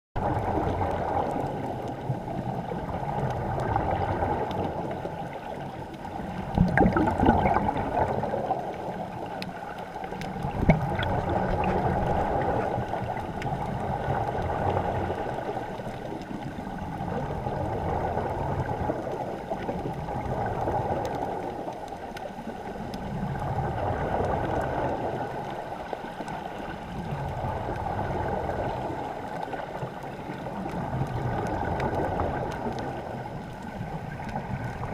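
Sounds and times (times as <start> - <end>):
underwater rushing and gurgling: 0.2 - 34.9.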